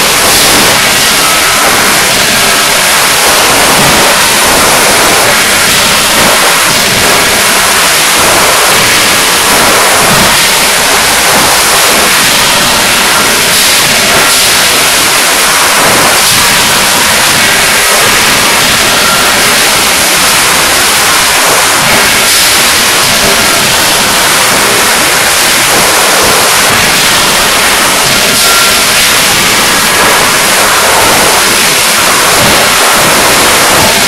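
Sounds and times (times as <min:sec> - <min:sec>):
forging hammers and presses din: 0:00.0 - 0:34.0.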